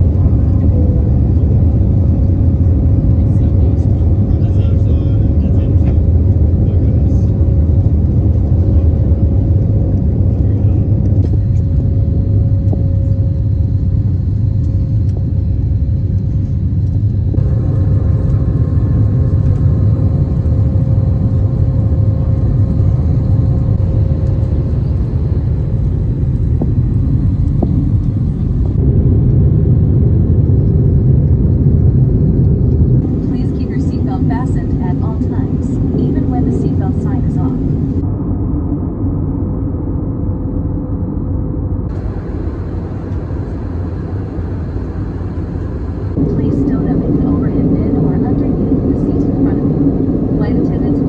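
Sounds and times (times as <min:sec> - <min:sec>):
faint steady whine: 0:00.0 - 0:29.4, 0:32.7 - 0:51.0
jet engine and airflow rumble: 0:00.0 - 0:51.0.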